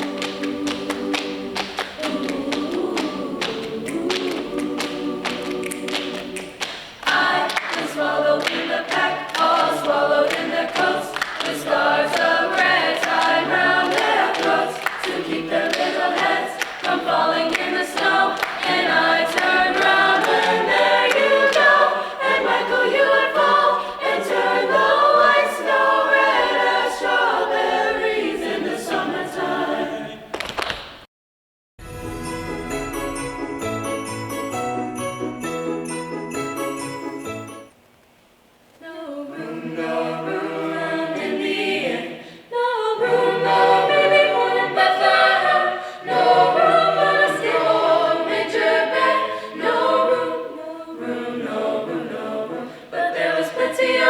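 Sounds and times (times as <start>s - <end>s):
choir singing a cappella: 0.0s - 30.3s, 38.8s - 54.0s.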